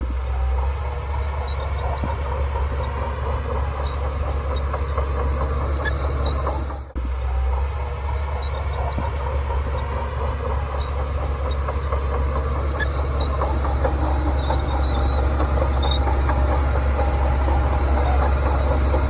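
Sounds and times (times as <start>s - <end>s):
bulldozer engine rumbling: 0.0s - 19.0s.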